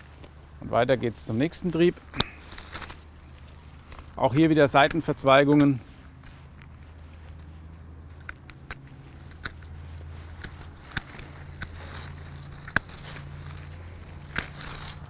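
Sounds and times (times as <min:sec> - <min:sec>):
branches rustling: 0:00.0 - 0:15.0
secateurs snipping: 0:01.4 - 0:15.0.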